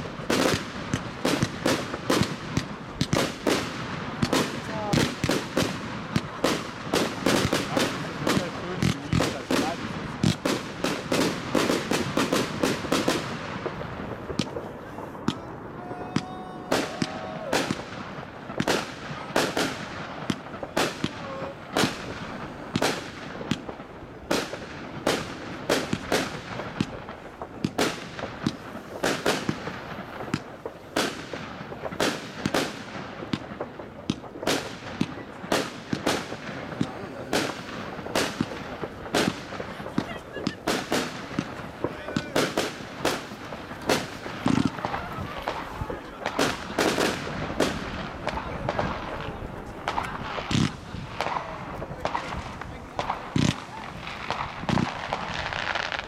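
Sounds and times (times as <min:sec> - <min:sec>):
fireworks barrage: 0:00.0 - 0:56.0
sharp firework bangs: 0:00.0 - 0:56.0.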